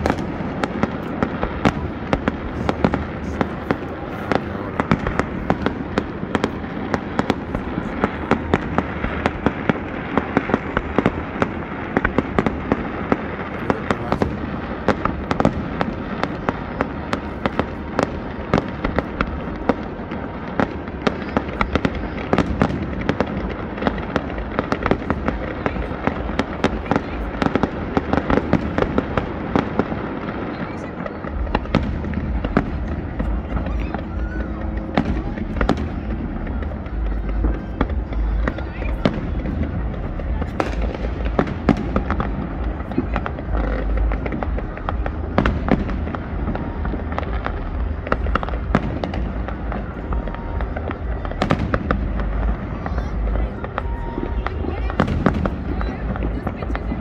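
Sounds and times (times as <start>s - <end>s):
continuous rumble: 0.0s - 57.0s
firework bangs and crackles: 0.0s - 57.0s.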